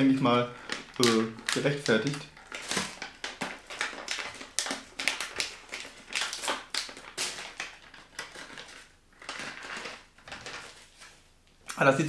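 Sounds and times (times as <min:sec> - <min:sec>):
snack pouch tearing and crinkling: 0:00.5 - 0:10.8.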